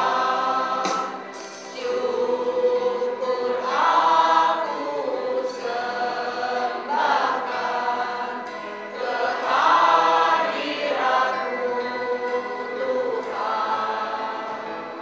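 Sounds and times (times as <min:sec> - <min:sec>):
women's choir singing: 0:00.0 - 0:15.0.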